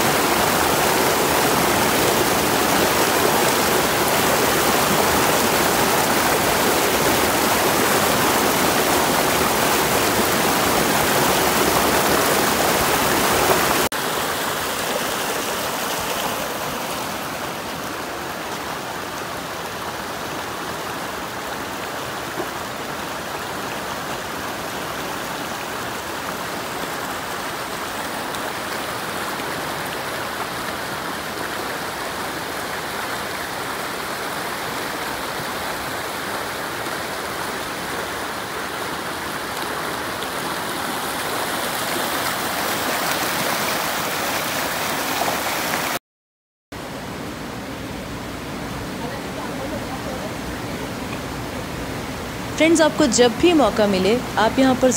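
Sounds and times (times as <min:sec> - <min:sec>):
stream rushing over rocks: 0:00.0 - 0:46.0, 0:46.8 - 0:54.9.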